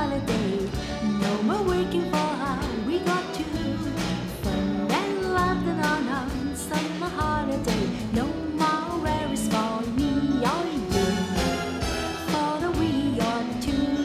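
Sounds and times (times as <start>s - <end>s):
drum kit beat: 0.0s - 14.0s
electric guitar: 0.0s - 14.0s
woman singing: 0.0s - 14.0s.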